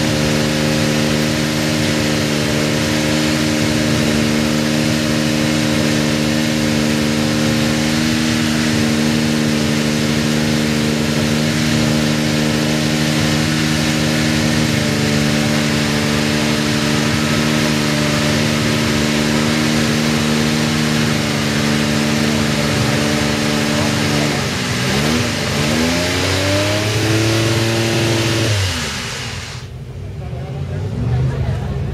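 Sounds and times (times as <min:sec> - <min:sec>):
race car engine idling and revving: 0:00.0 - 0:31.9.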